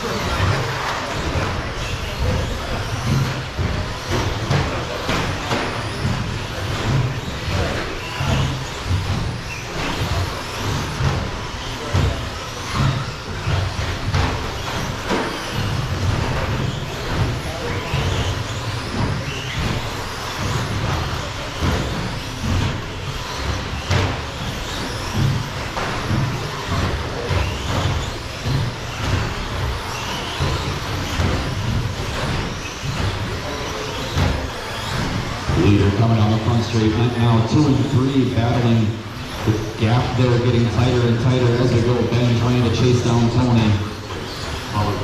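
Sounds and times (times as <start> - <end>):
rc trucks motor and tyres: 0.0 - 45.0.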